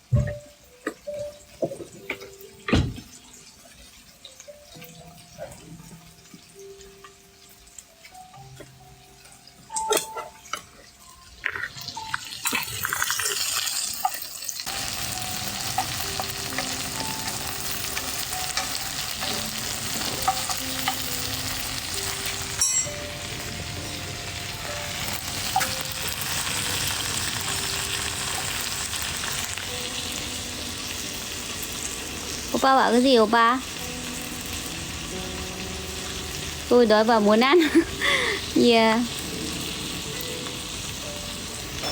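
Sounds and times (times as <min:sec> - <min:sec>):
food sizzling in a hot pan: 0:00.0 - 0:41.9.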